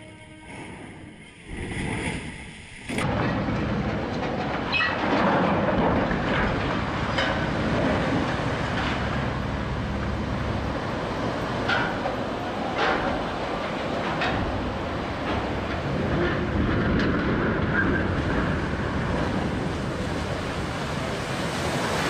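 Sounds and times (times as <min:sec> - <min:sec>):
ship hull sliding into water: 0:02.9 - 0:22.0.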